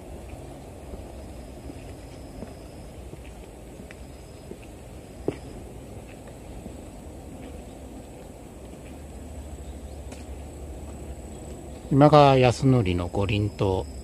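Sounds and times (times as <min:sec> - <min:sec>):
footsteps on paved path: 0:00.0 - 0:12.4
outdoor background noise: 0:00.0 - 0:14.0.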